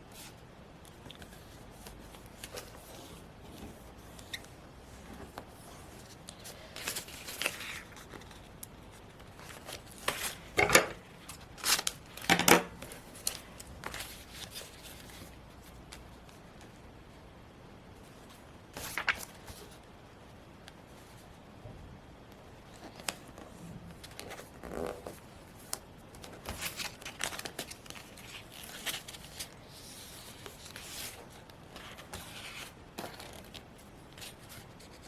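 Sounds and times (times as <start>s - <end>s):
paper rustling: 1.0s - 15.8s, 18.8s - 19.8s, 22.7s - 35.0s.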